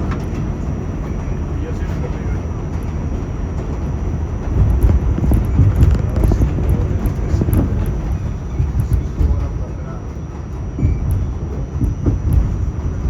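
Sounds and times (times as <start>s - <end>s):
train clacks and knocks: 0.0s - 13.0s
train wheels rumbling on rail: 0.0s - 13.0s.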